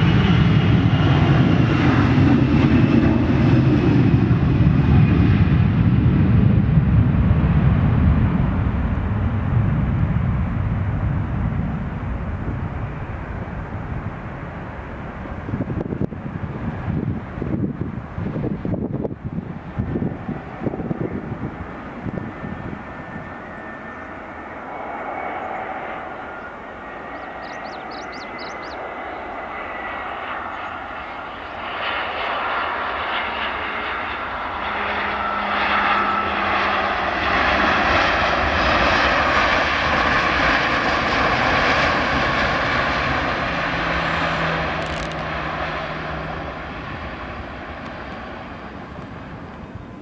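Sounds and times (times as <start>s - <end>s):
jet plane passing: 0.0s - 50.0s.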